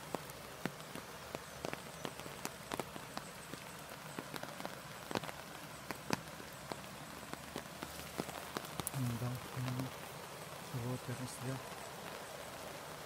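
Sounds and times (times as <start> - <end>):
raindrops ticking: 0.0 - 13.0
steady hiss of rain: 0.0 - 13.0.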